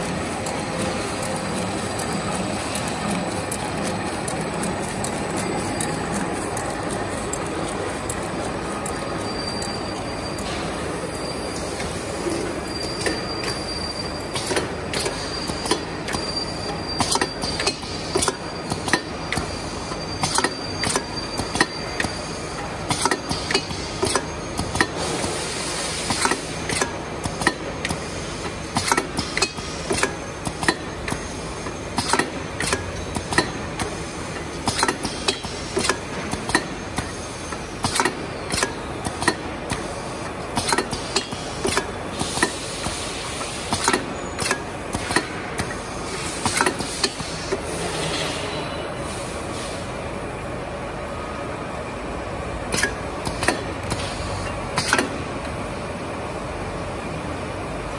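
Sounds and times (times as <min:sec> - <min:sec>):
machine clicking clatter: 0:00.0 - 0:11.2, 0:13.0 - 0:16.3, 0:17.0 - 0:25.4, 0:26.0 - 0:48.4, 0:52.7 - 0:55.3
machine mechanical hum: 0:00.0 - 0:57.9.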